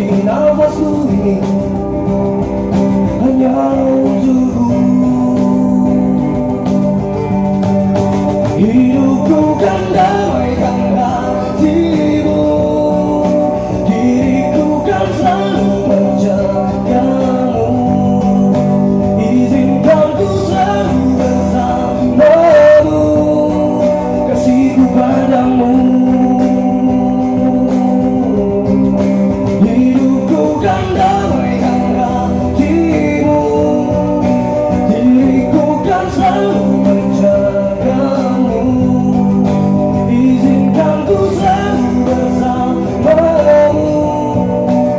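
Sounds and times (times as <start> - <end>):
man singing: 0.0 - 7.6, 8.2 - 44.9
acoustic guitar strumming: 0.0 - 44.9.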